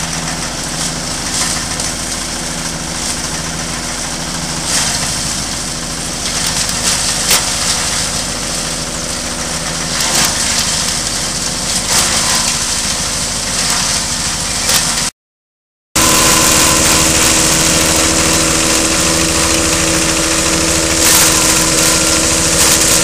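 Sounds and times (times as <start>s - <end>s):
engine drone: 0.0s - 15.0s, 16.0s - 23.0s.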